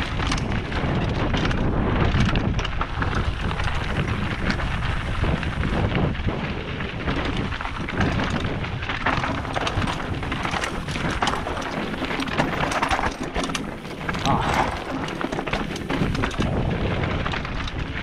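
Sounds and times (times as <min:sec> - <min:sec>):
bike tyres crunching over gravel: 0:00.0 - 0:18.0
wind rumbling on microphone: 0:00.0 - 0:18.0.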